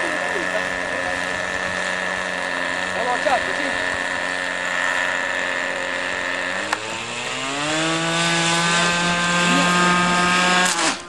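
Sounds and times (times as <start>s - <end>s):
model airplane engine buzzing: 0.0s - 11.0s.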